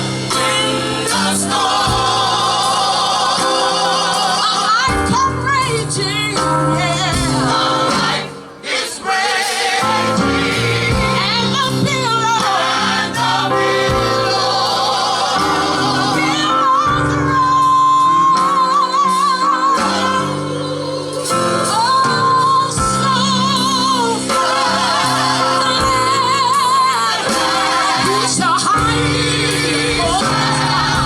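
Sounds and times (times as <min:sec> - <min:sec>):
band instrumental chords and bass: 0:00.0 - 0:31.0
gospel singing with vibrato: 0:00.0 - 0:31.0.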